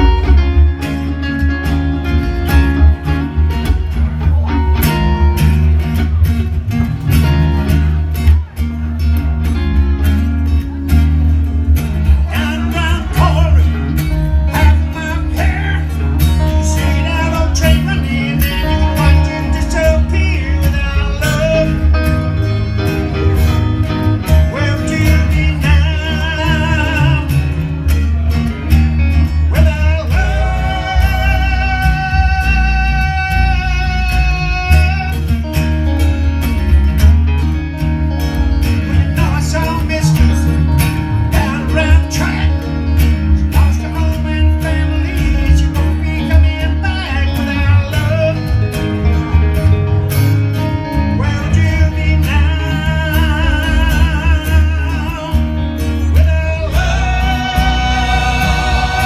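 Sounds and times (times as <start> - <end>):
heavy bass line: 0.0 - 59.0
rhythm guitar: 0.0 - 59.0
wavering lead guitar melody: 0.0 - 59.0.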